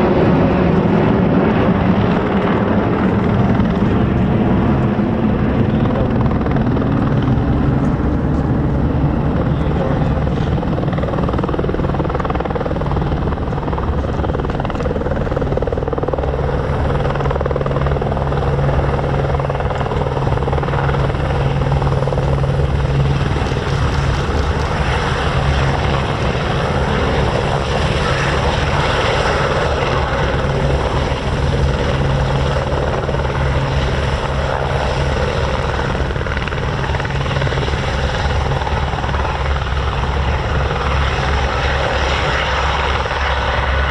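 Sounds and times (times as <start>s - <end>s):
helicopter turbine and rotor: 0.0s - 43.9s.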